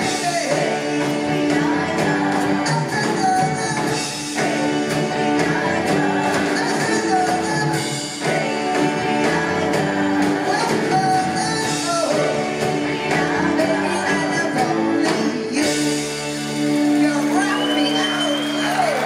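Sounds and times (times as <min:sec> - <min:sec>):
backing vocals: 0:00.0 - 0:16.0
live rock band playing: 0:00.0 - 0:19.0.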